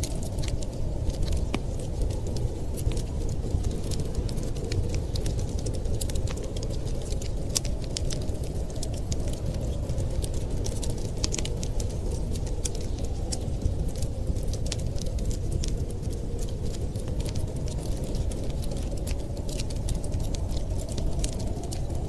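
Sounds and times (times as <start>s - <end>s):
low rumble of wind: 0.0s - 22.0s
wood fire crackling: 0.0s - 22.0s.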